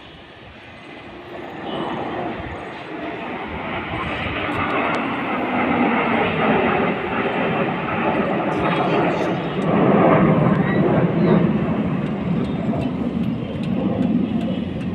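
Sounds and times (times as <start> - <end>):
aircraft engine roar: 0.0 - 14.9.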